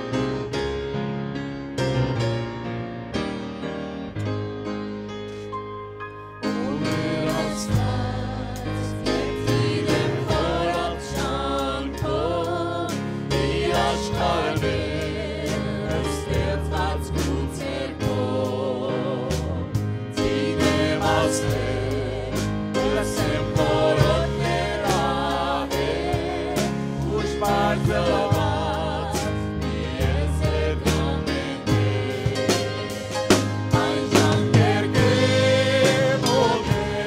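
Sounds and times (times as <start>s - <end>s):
instrumental accompaniment: 0.0s - 37.0s
choir singing a slow hymn: 6.5s - 37.0s.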